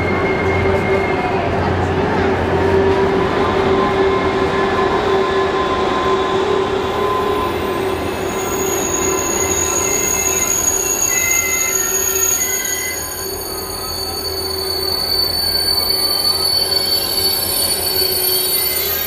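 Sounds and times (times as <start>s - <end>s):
high-pitched squealing tones: 0.0s - 19.0s
train hum with held tone: 0.0s - 19.0s.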